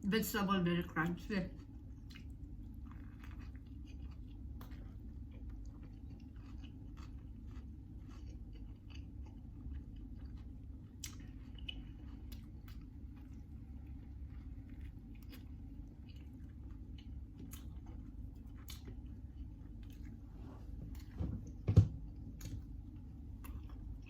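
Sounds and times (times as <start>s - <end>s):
steady low hum: 0.0s - 24.0s
person chewing crunchy food: 1.5s - 21.2s, 22.0s - 24.0s.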